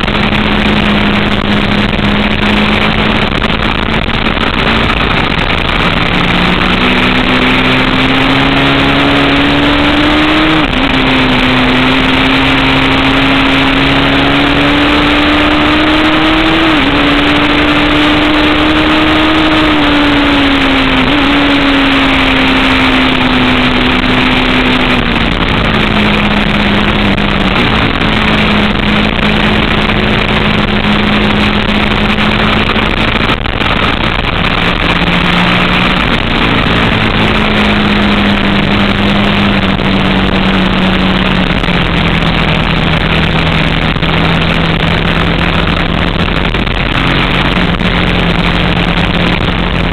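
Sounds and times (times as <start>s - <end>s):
heavy wind rush: 0.0s - 49.9s
motorcycle engine accelerating: 0.0s - 49.9s.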